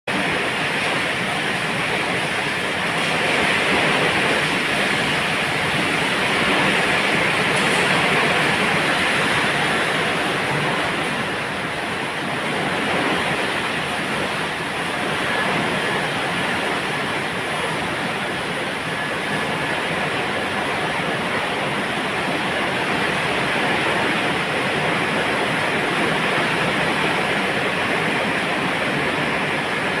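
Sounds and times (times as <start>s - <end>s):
heavy rain in strong wind: 0.0s - 30.0s.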